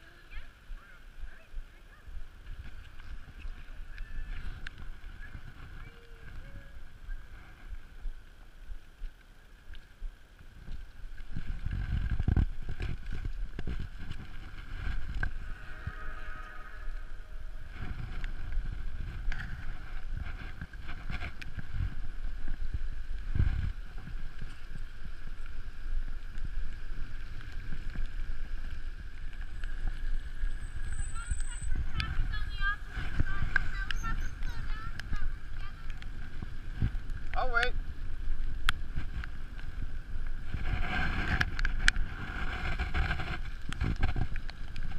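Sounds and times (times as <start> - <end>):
wind buffeting microphone: 0.0 - 8.9, 10.0 - 44.9.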